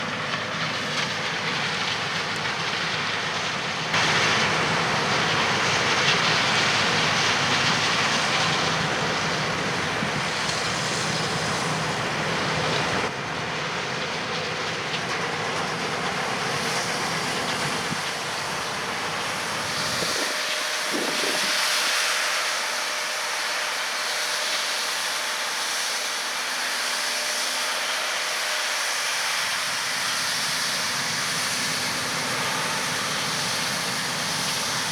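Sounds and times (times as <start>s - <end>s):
combine harvester machinery drone: 0.0s - 34.9s.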